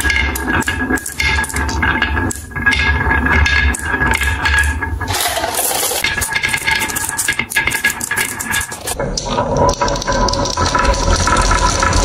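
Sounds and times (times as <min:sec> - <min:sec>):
marbles rolling and clattering on wood: 0:00.0 - 0:12.0.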